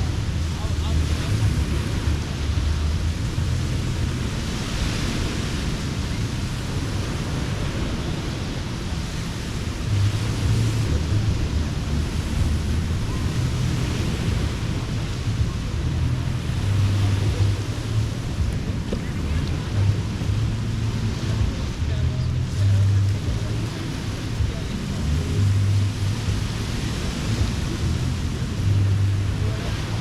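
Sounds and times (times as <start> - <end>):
ocean surf washing onto beach: 0.0 - 30.0
wind rumble on microphone: 0.0 - 30.0.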